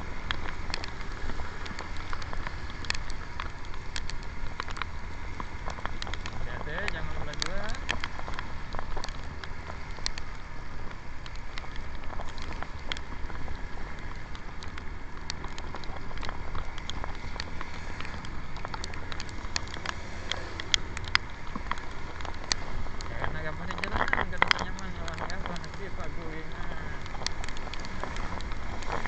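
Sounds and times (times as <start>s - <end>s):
raindrops ticking on camera: 0.0s - 29.0s
wind rumble: 0.0s - 29.0s.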